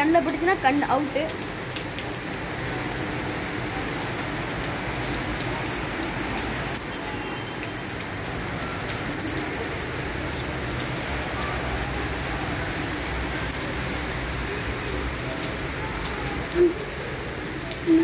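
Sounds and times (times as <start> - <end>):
rain falling steadily: 0.0 - 18.0.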